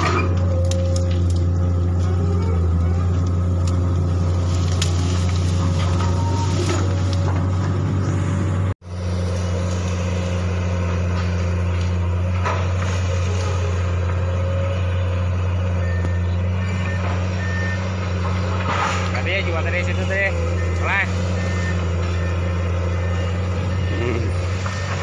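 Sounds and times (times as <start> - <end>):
excavator diesel engine drone: 0.0 - 25.0.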